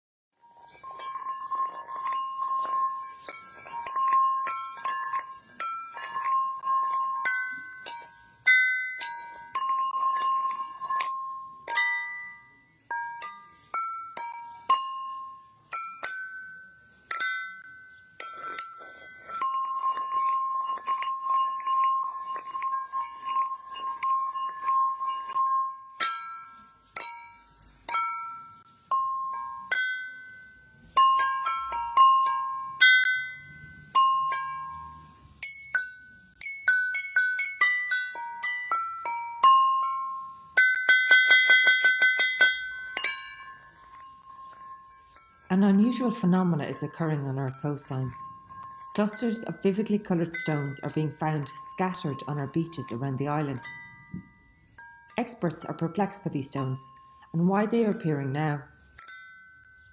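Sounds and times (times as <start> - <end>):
bell-like tuned percussion melody: 0.4 - 59.9.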